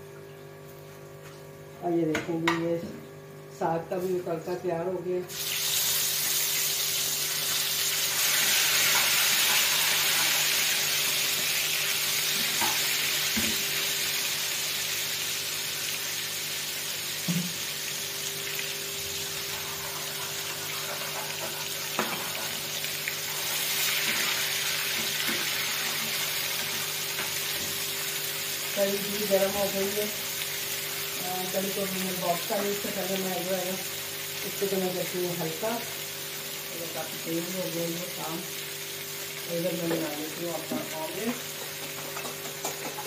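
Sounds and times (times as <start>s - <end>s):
ghee sizzling in a pan: 5.3s - 43.0s.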